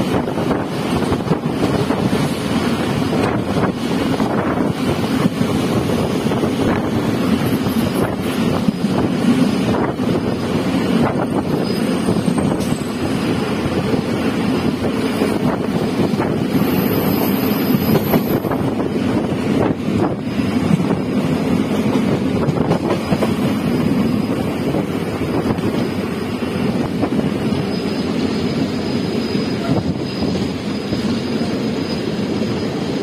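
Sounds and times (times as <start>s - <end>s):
train rumbling: 0.0s - 33.0s
wind buffeting microphone: 0.0s - 33.0s.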